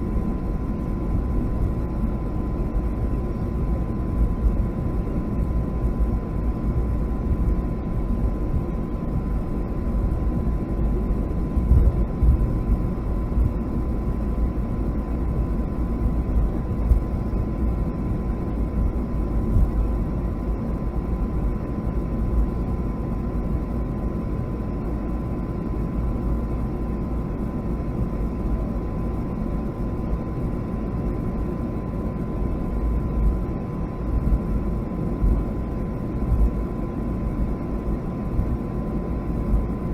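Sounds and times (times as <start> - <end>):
airplane engines and airflow in cabin: 0.0 - 39.9.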